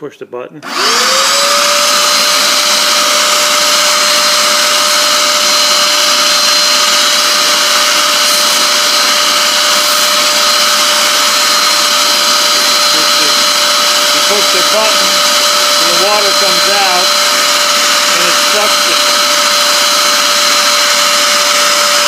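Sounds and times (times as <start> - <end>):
carpet cleaner motor whining: 0.6 - 22.0.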